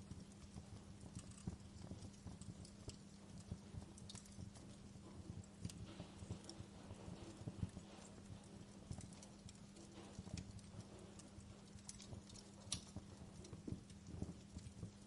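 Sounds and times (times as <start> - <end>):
campfire crackling: 0.0 - 15.0
low steady hum: 0.0 - 15.0.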